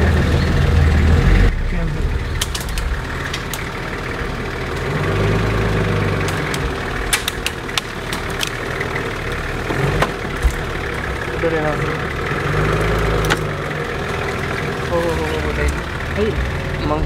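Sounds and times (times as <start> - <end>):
vehicle engine running: 0.0 - 17.0
sharp knocks and rattles: 1.5 - 17.0.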